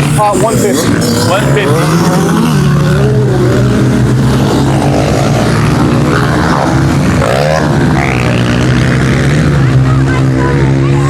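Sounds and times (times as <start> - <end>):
pit bike engines revving: 0.0 - 11.0.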